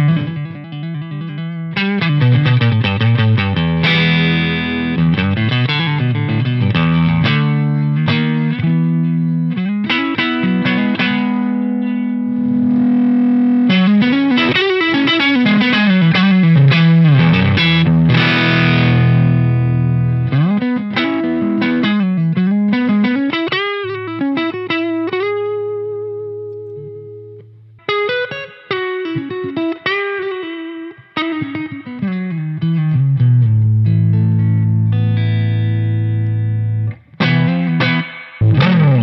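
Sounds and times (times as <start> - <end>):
overdriven electric guitar: 0.0 - 39.0.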